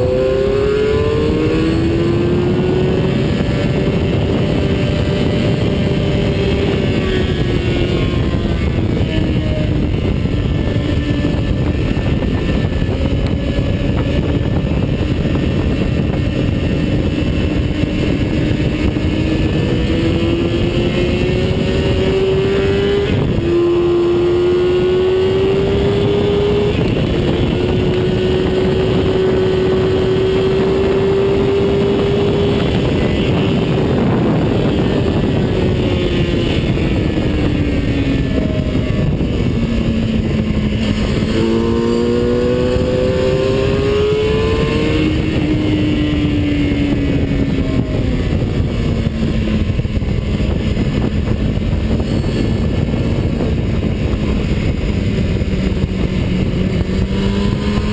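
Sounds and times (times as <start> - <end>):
heavy wind noise: 0.0 - 57.9
racing car engine: 0.0 - 57.9.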